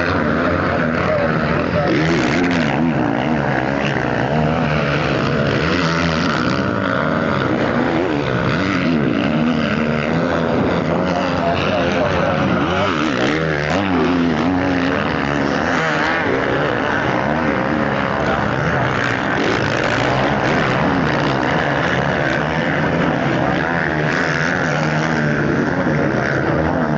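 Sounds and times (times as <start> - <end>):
motocross bike engines revving: 0.0 - 26.9.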